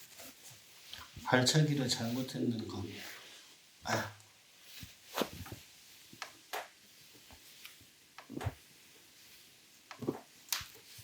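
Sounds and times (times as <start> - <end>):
hands rustling on cotton cloth: 0.0 - 11.0.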